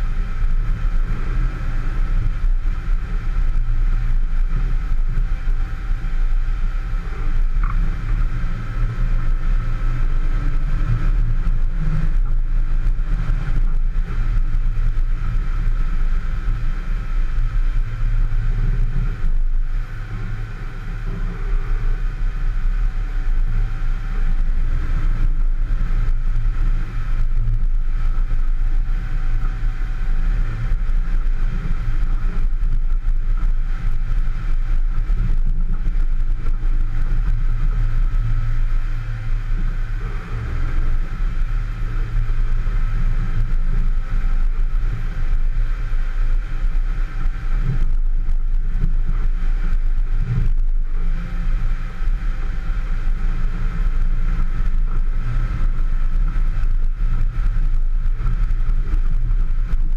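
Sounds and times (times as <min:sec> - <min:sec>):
faint steady whine: 0:00.0 - 0:59.9
vehicle engine rumble: 0:00.0 - 0:59.9.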